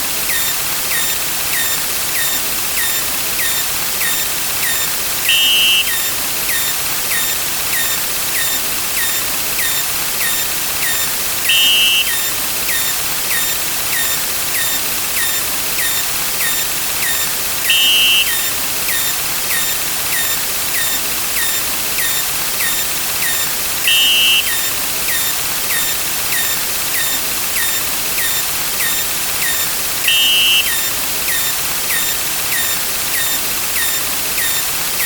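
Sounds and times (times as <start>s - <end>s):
two-tone beep: 0.3s - 34.7s.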